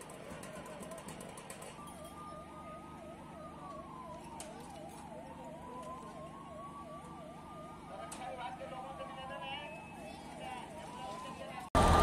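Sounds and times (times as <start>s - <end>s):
siren slow wail: 0.4s - 12.0s.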